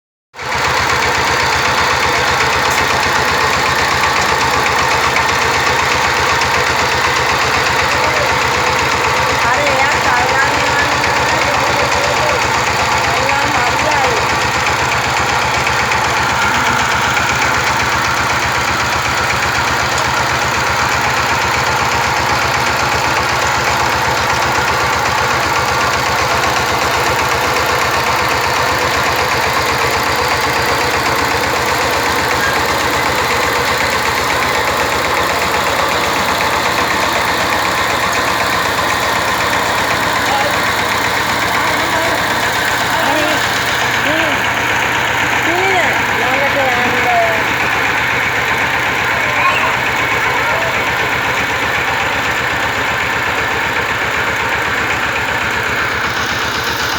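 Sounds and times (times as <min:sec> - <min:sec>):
tractor engine running: 0:00.4 - 0:56.9.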